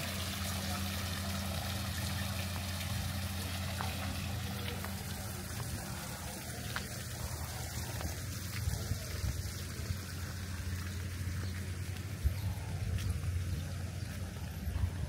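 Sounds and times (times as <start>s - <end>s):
fountain water splashing: 0.0s - 15.0s
low hum: 0.3s - 15.0s.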